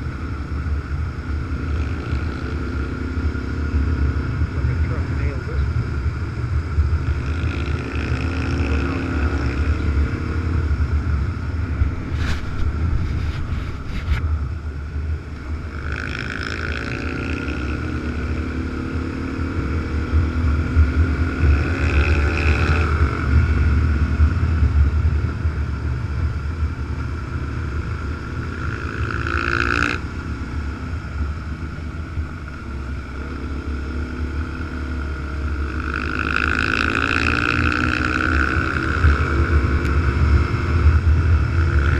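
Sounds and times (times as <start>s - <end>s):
wind rumble on microphone: 0.0s - 29.2s, 36.8s - 41.9s
motorcycle engine: 0.0s - 41.9s.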